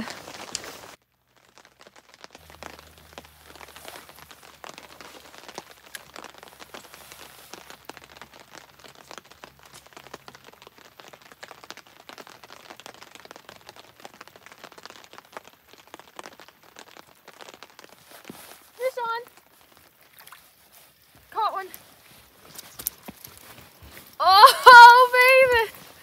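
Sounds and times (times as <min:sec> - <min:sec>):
rain patter: 0:00.0 - 0:26.0.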